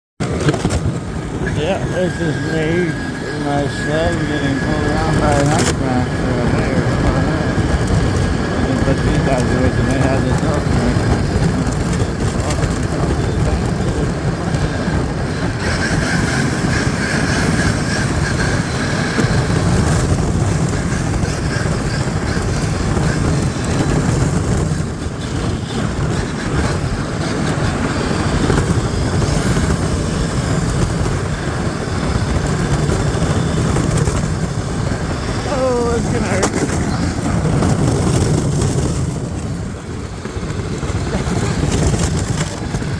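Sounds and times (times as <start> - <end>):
sled rumbling across ice: 0.2 - 42.9
thin whine: 0.5 - 42.9.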